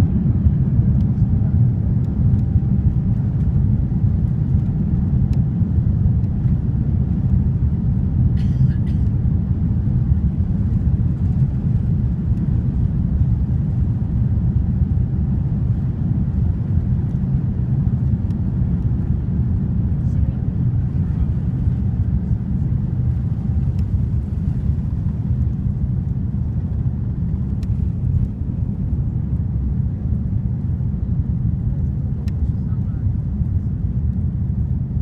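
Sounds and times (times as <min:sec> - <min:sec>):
jet airliner engines roaring: 0:00.0 - 0:35.0.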